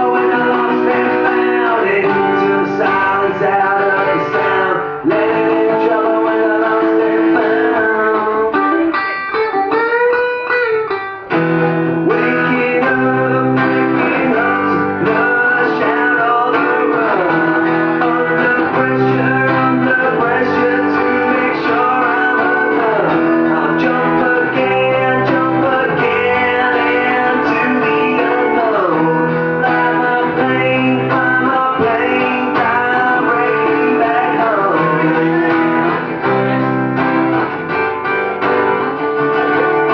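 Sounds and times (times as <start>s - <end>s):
live band led by guitar: 0.0s - 39.9s.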